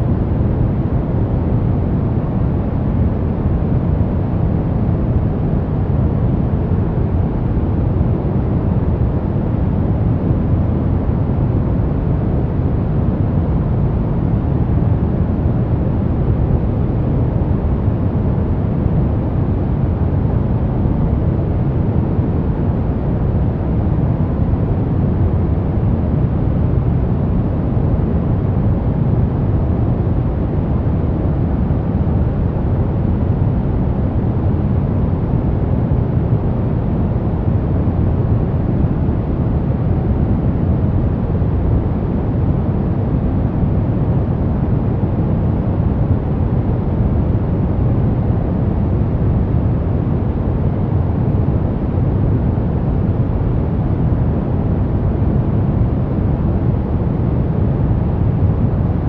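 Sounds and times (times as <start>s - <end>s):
deep rumbling white noise: 0.0s - 59.0s.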